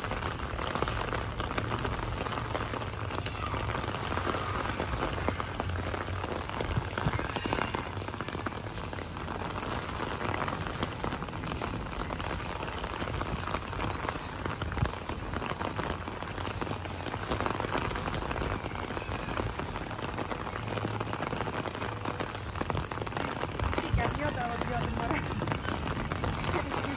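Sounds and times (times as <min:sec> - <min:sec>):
rain falling on concrete roof: 0:00.0 - 0:26.9.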